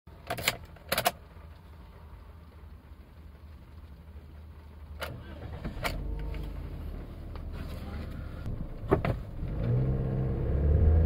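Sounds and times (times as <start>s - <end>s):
car engine cranking and starting: 0.1s - 11.0s
car engine idling: 0.1s - 11.0s
low cabin hum: 0.1s - 11.0s.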